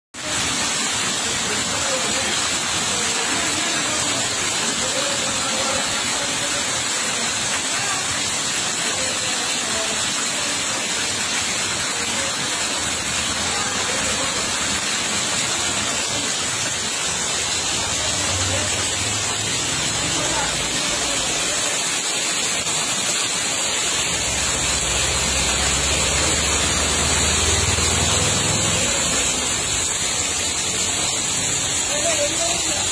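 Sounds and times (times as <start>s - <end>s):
heavy rain on concrete and water: 0.1s - 32.9s.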